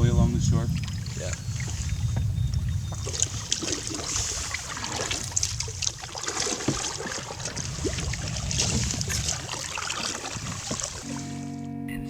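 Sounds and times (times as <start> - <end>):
wind rumble on microphone: 0.0 - 11.3
water trickling: 0.0 - 11.4
paddles splashing: 0.0 - 11.5.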